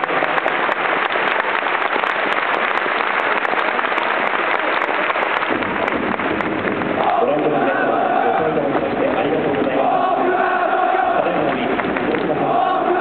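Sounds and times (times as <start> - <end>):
stadium crowd applauding: 0.0 - 13.0.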